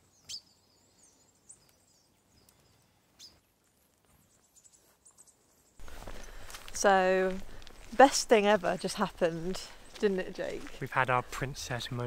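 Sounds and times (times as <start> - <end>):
faint songbird chirps: 0.0 - 10.7.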